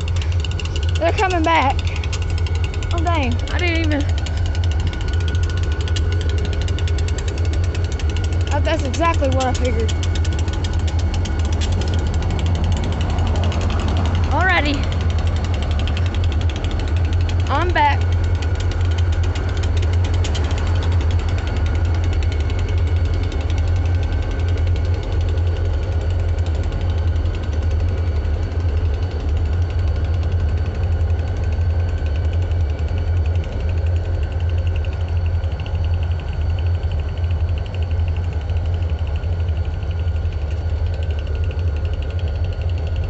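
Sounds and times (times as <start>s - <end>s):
engine idling: 0.0s - 43.0s
faint steady tones: 0.0s - 43.0s.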